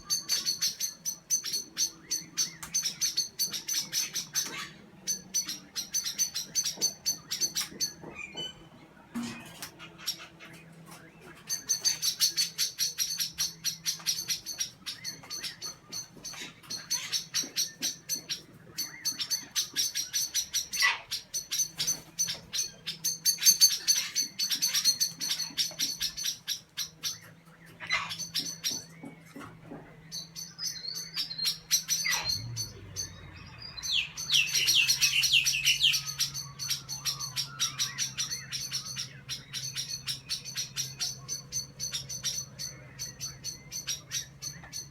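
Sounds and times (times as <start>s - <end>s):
small birds alarm calls: 0.0s - 44.9s.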